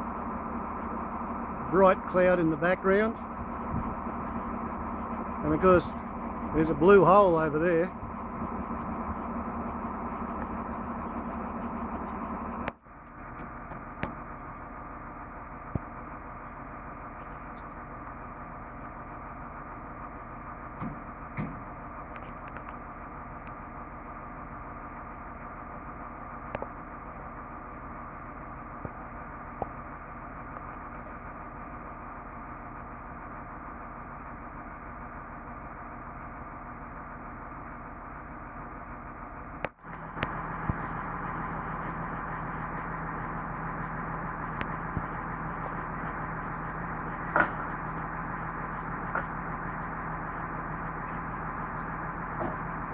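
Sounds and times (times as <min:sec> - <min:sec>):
vehicle engine running: 0:00.0 - 0:52.9.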